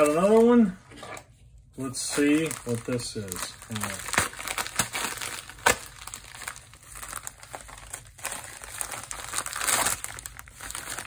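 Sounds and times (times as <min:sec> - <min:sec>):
plastic mailer bag crinkling: 0:00.0 - 0:00.8, 0:01.8 - 0:11.0.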